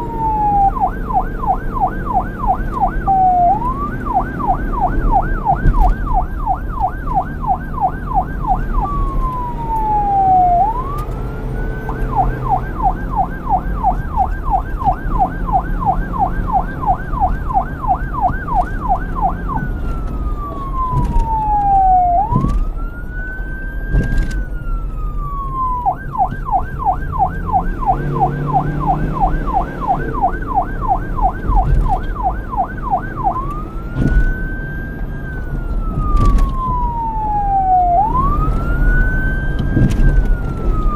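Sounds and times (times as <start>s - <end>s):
police siren yelp and wail: 0.0s - 40.9s.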